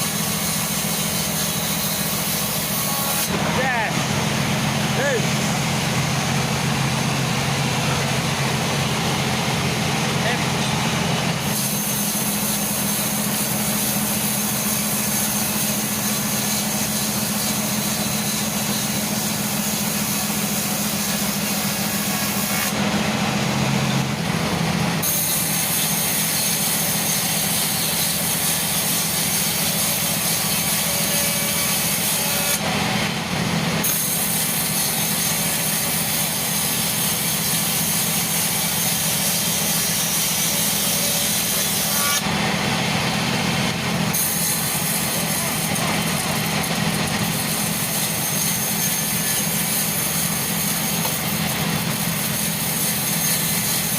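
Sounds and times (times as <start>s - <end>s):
saw cutting wood hiss: 0.0s - 53.9s
saw motor hum: 0.0s - 53.9s.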